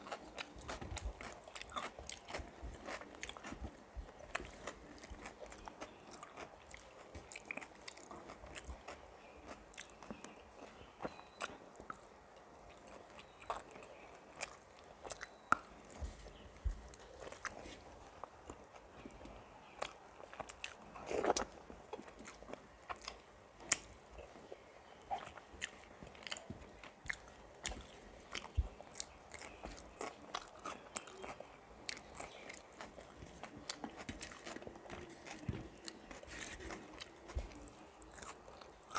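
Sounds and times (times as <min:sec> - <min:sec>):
chewing with wet clicks: 0:00.0 - 0:38.9.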